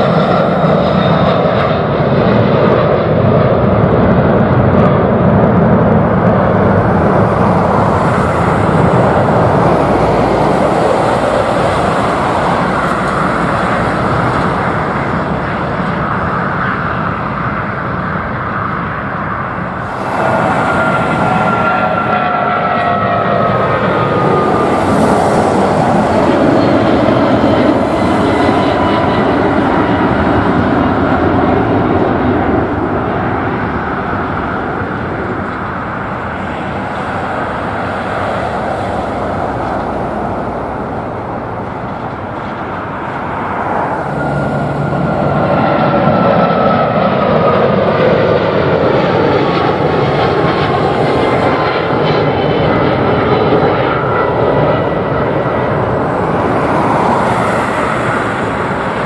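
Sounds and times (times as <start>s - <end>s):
jet climbing after takeoff: 0.0s - 59.0s
jet coming in to land: 0.0s - 59.0s.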